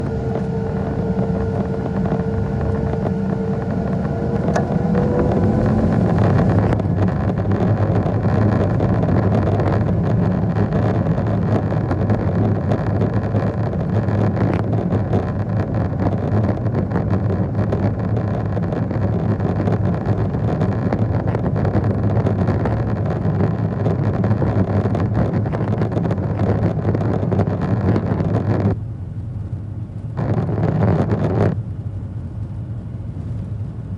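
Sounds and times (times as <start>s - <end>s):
jet engines roaring at takeoff: 0.0s - 27.3s.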